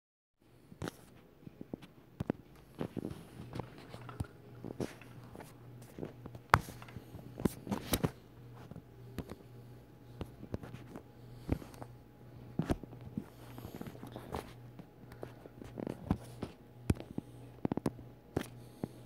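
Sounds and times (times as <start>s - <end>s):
faint steady hum: 0.4s - 19.0s.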